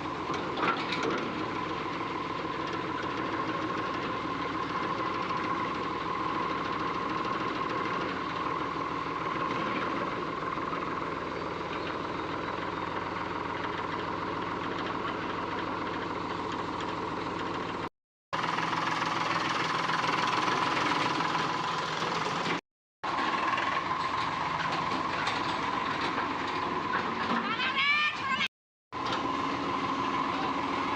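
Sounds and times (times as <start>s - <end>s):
tractor diesel engine idling: 0.0s - 27.8s, 29.0s - 30.9s.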